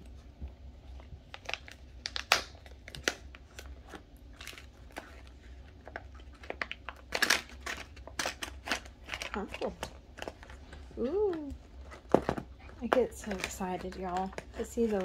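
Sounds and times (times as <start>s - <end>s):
packaging crinkling and rustling: 0.8s - 15.0s.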